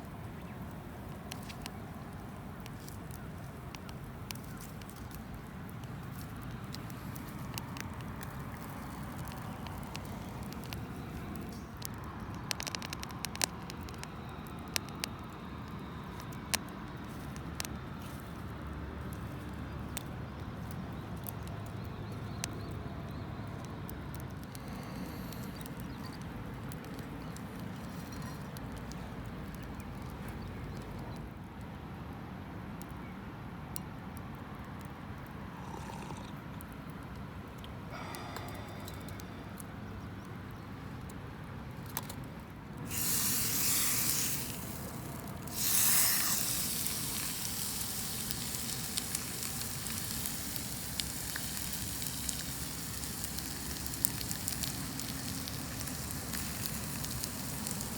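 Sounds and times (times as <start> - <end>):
campfire crackling and popping: 0.0 - 30.8, 41.9 - 57.9.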